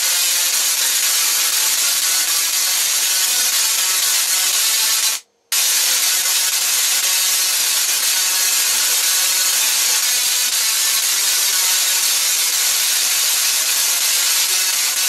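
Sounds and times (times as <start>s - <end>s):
tesla coil spark hissing: 0.0s - 15.0s.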